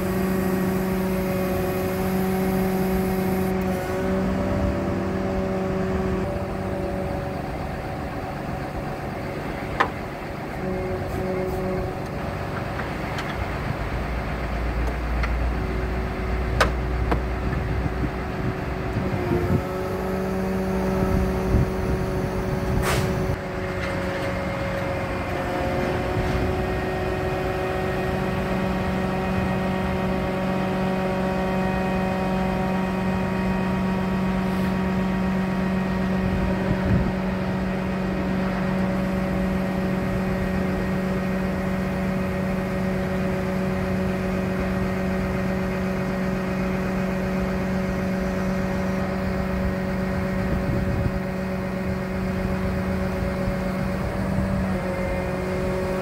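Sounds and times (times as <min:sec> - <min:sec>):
truck engine and hydraulics humming: 0:00.0 - 0:56.0.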